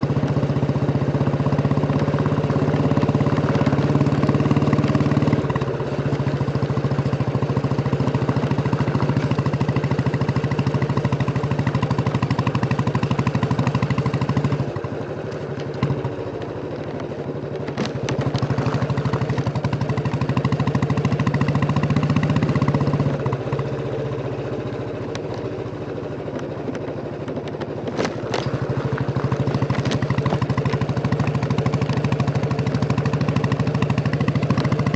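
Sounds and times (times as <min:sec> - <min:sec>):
motorcycle engine thumping: 0:00.0 - 0:34.9.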